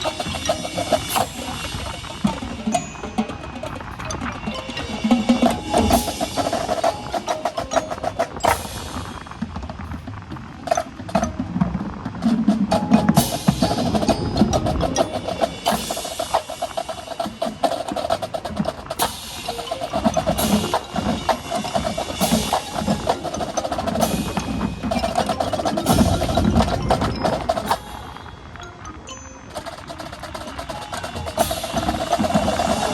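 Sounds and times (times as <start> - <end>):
marching percussion drumming: 0.0 - 28.6, 29.5 - 32.9.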